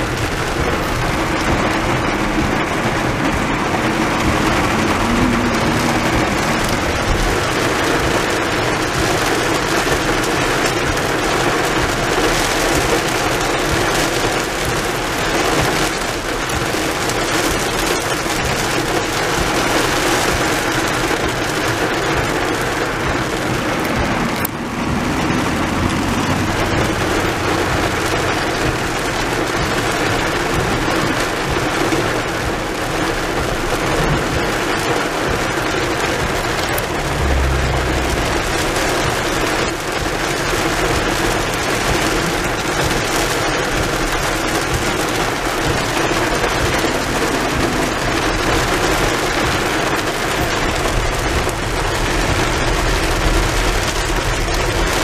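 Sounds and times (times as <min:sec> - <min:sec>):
heavy rain on car roof: 0:00.0 - 0:55.0.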